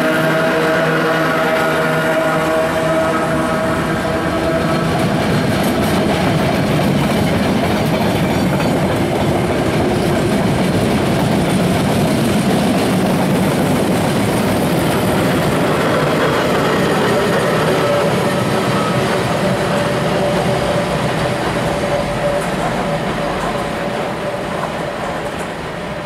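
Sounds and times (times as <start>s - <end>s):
battery locomotive passing: 0.0s - 26.0s
train wheels rumbling on rails: 0.0s - 26.0s.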